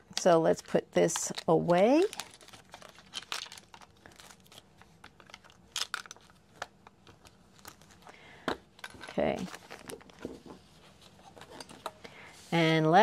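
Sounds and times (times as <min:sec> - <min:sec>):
plastic packaging crinkling: 0:00.1 - 0:11.9.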